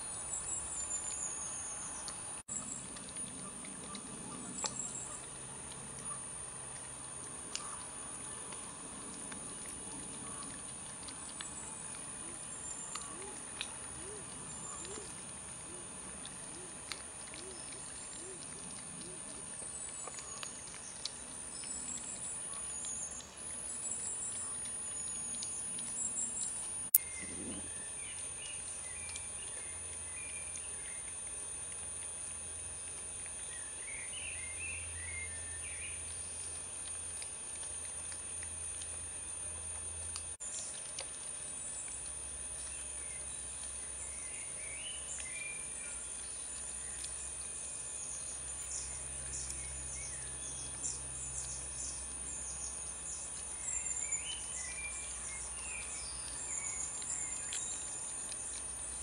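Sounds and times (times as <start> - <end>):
small birds chirping: 0.0 - 59.0
steady high-pitched whine: 0.0 - 59.0.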